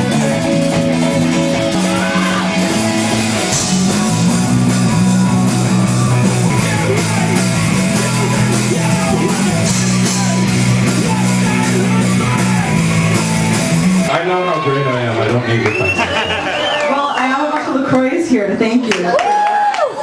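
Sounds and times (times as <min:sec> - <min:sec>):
live rock band playing: 0:00.0 - 0:16.8.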